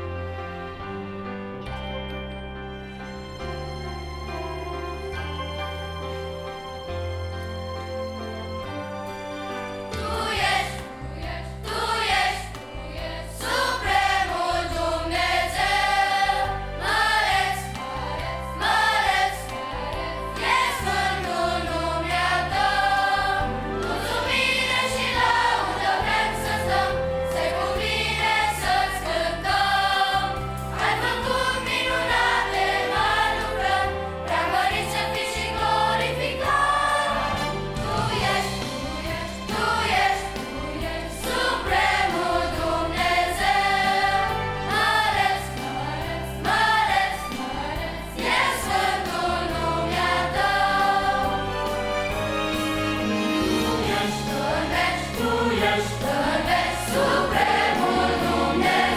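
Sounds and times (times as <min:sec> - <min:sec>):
instrumental accompaniment: 0:00.0 - 0:58.9
children's choir singing a hymn: 0:09.9 - 0:58.9.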